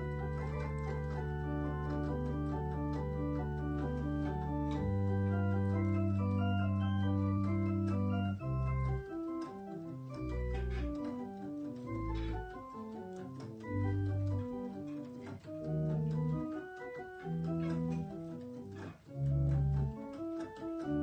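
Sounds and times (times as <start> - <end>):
electronic organ playing: 0.0 - 21.0.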